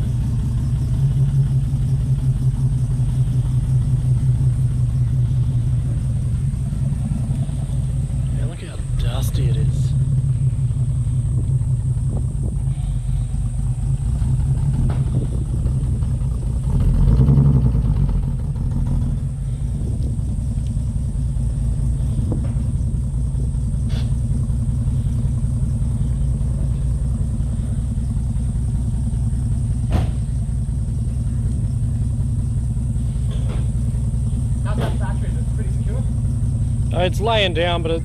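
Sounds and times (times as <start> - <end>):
lumpy car engine idling: 0.0 - 38.0.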